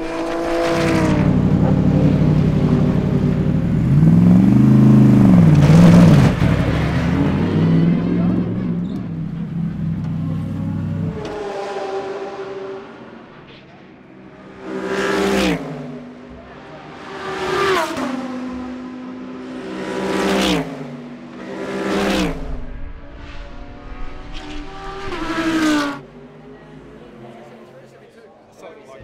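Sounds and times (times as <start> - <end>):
race cars passing at speed: 0.0 - 28.9.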